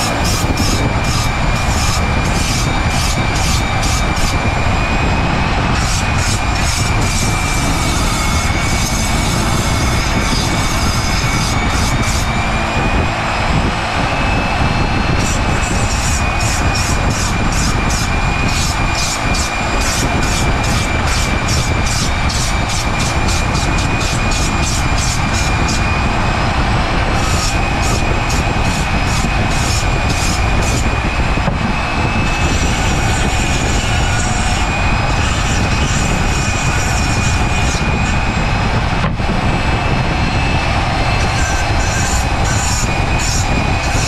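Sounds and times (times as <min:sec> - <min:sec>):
rotary tool whining: 0:00.0 - 0:44.0.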